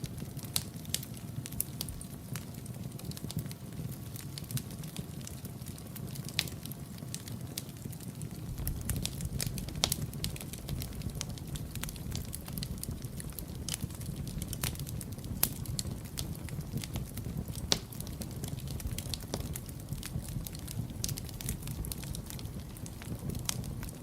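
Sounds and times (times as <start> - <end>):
fire crackles and pops: 0.0 - 24.0
fire flames rumbling: 0.0 - 24.0.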